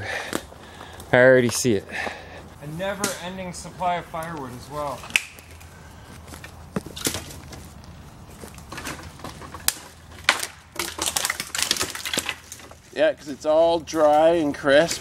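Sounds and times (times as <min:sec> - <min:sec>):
twigs crackling under footsteps: 0:00.0 - 0:15.0.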